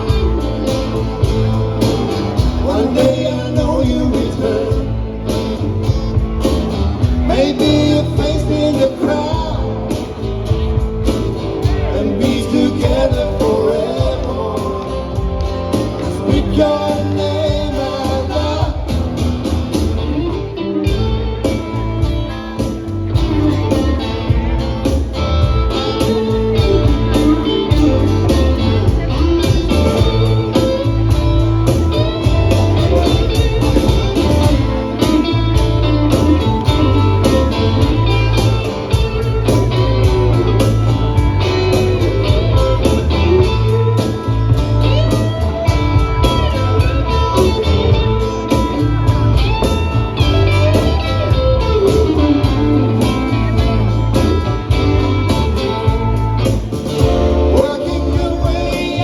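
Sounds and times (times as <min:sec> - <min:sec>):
bass guitar: 0:00.0 - 0:59.0
guitars: 0:00.0 - 0:59.0
percussion: 0:00.0 - 0:59.0.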